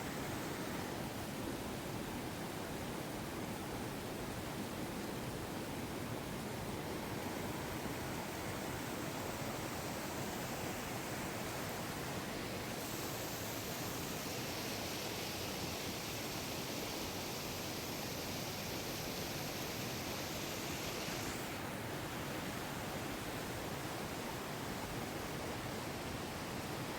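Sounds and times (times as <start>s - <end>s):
rushing water: 0.0s - 26.9s.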